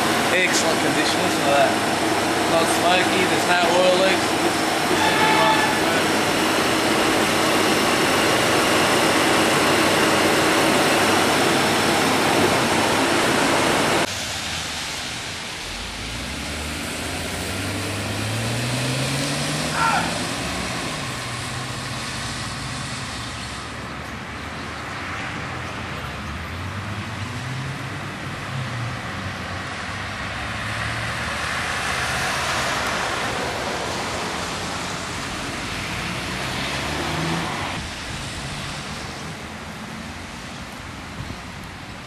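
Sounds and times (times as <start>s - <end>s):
car engine drone: 0.0s - 42.0s
road and tyre noise: 0.0s - 42.0s.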